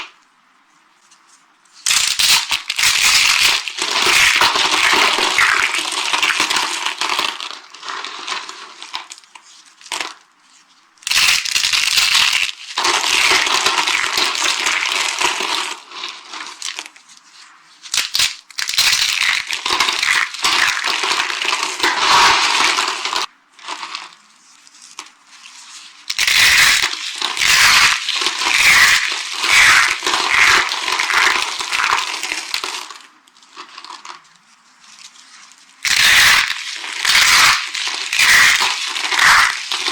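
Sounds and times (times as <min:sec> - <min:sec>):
soap being crushed: 0:01.8 - 0:10.2, 0:11.0 - 0:17.0, 0:17.9 - 0:24.2, 0:26.0 - 0:34.2, 0:35.8 - 0:39.9.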